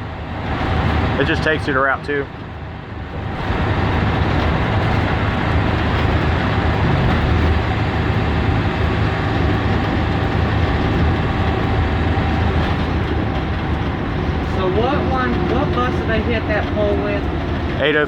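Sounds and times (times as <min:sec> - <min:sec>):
bus engine drone: 0:00.0 - 0:18.0
road and rattle noise: 0:00.0 - 0:18.0.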